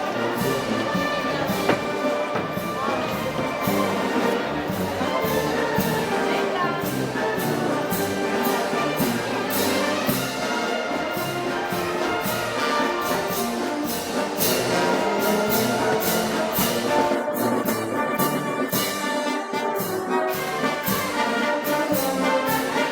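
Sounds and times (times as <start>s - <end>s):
brass band playing: 0.0s - 22.9s.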